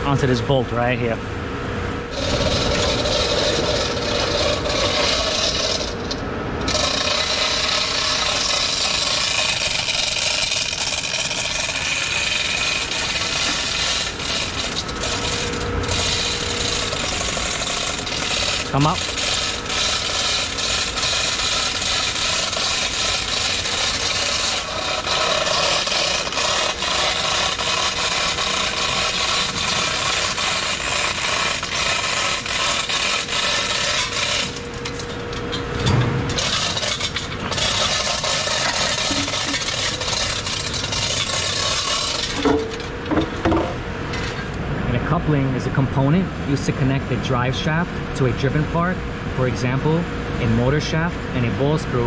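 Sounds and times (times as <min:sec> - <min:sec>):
steady machinery noise: 0:00.0 - 0:52.0.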